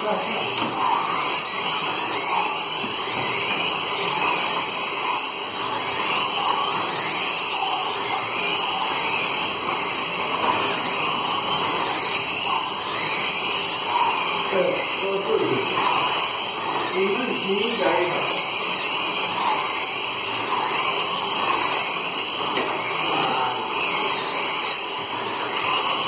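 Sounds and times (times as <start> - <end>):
slot car motors whining: 0.0 - 26.0.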